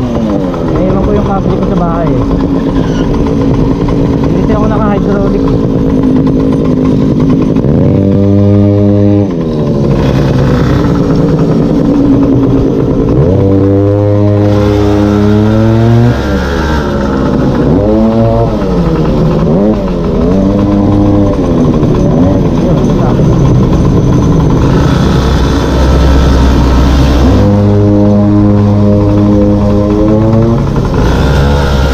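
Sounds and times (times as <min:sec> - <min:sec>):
small two-stroke engine revving: 0:00.0 - 0:31.9.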